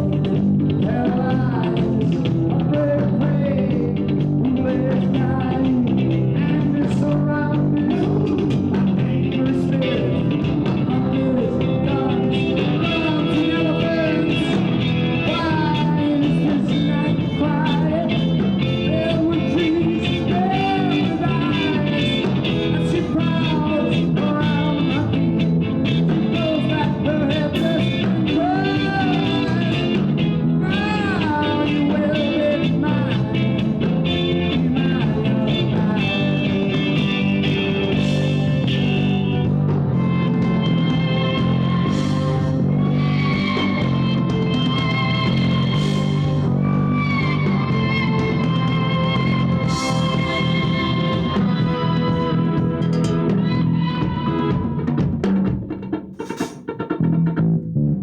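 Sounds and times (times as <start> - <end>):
electric guitar lead bending: 0.0 - 58.0
live rock band playing: 0.0 - 58.0.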